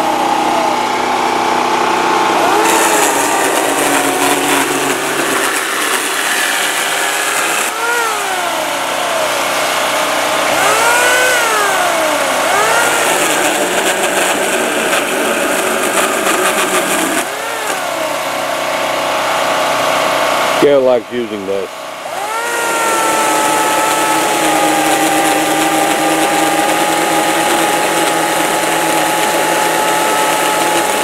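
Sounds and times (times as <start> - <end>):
electric chainsaw motor whine: 0.0 - 31.0
generator humming: 0.0 - 31.0.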